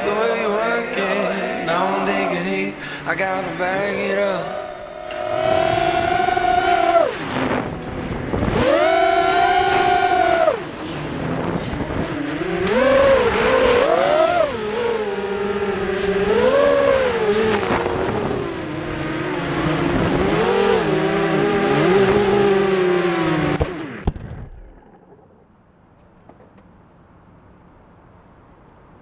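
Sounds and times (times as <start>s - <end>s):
quadcopter motors whining: 0.0s - 24.1s.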